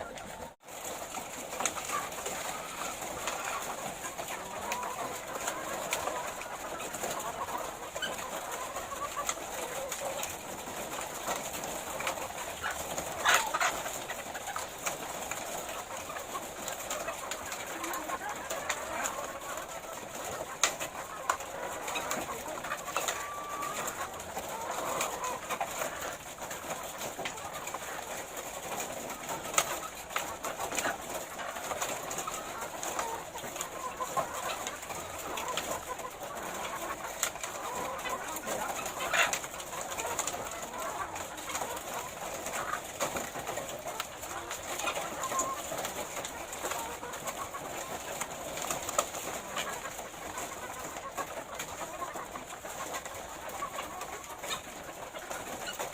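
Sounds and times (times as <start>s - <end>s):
hens clucking: 0.0s - 55.9s.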